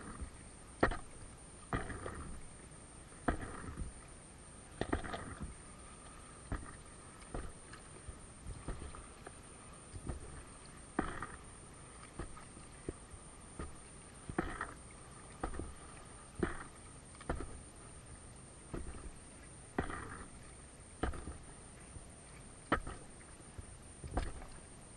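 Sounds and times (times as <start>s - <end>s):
paddle splash: 0.0s - 2.6s, 3.2s - 24.9s
water and wind hiss: 0.0s - 24.9s.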